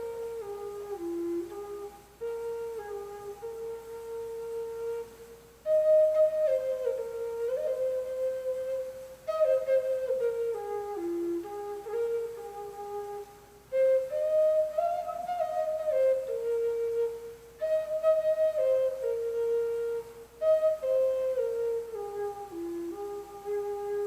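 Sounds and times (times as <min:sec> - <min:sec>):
flute playing slow melody: 0:00.0 - 0:24.0.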